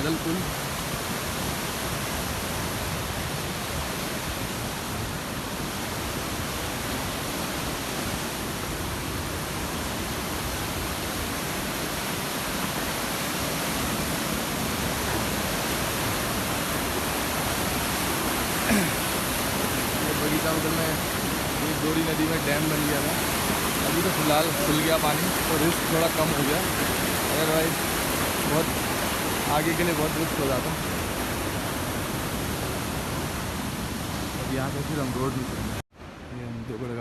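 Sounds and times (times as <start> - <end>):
fast-flowing river rushing: 0.0 - 37.0.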